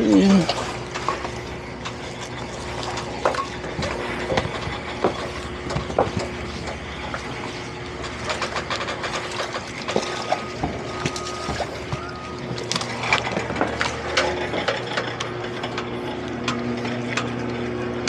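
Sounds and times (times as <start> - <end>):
outboard motor idling: 0.0 - 18.0
water lapping: 0.0 - 18.0.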